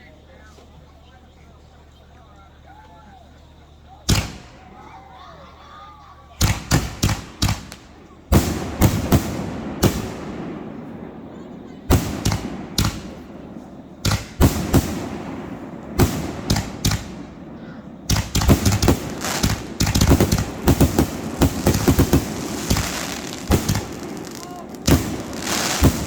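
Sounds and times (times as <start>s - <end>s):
crackling fireworks reports: 0.0s - 26.0s
fireworks banging: 2.9s - 26.0s.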